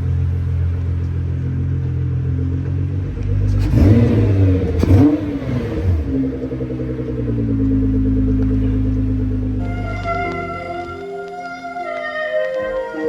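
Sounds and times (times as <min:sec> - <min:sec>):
car engine idling and revving: 0:00.0 - 0:12.8.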